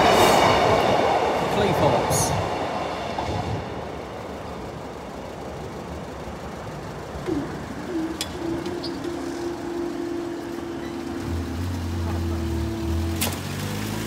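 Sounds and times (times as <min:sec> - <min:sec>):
barrier drive humming: 0:00.0 - 0:14.0
steady background rumble: 0:00.4 - 0:13.1.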